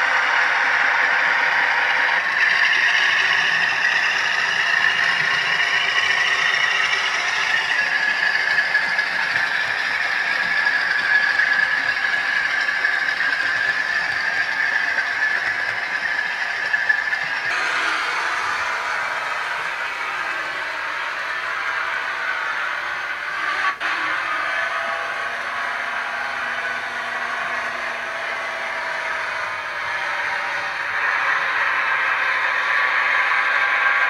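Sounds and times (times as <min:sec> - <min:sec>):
high hum: 0:00.0 - 0:34.0
model train wheels clattering: 0:00.0 - 0:34.0.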